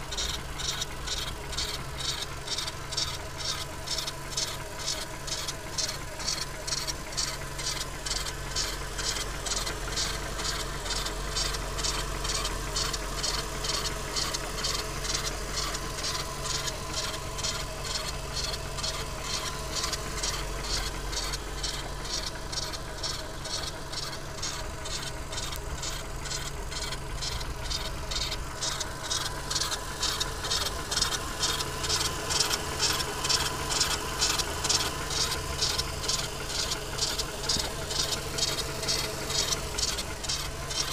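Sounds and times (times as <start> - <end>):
petrol engine running: 0.0 - 40.9
rhythmic high-pitched belt squeak: 0.1 - 40.9.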